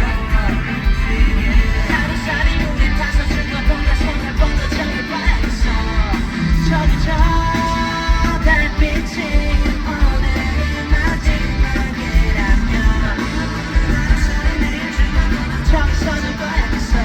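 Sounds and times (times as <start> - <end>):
bass guitar: 0.0 - 17.0
drums: 0.0 - 17.0
electric guitar: 0.0 - 17.0
person singing: 0.0 - 17.0.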